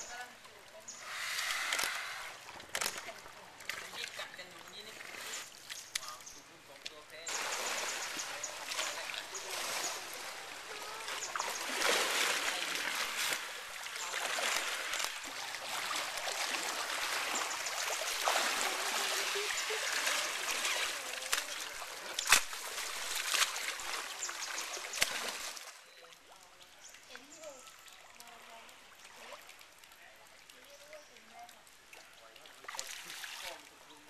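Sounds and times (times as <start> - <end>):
water splashing and churning: 0.0 - 34.0.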